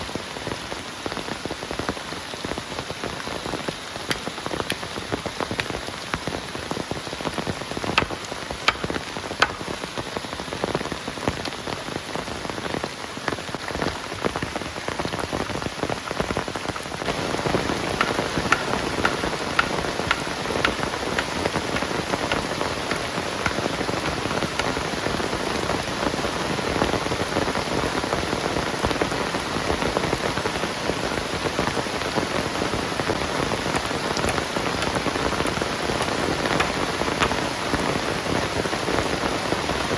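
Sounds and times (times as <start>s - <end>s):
heavy rain falling: 0.0s - 39.9s
raindrops ticking close by: 0.0s - 39.9s.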